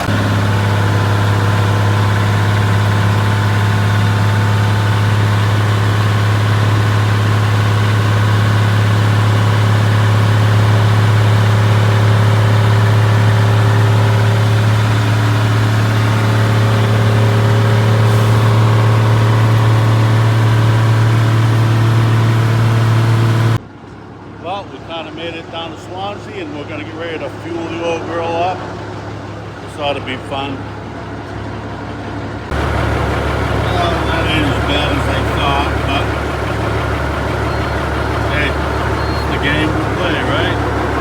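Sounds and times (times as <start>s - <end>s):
truck engine humming: 0.0s - 41.0s.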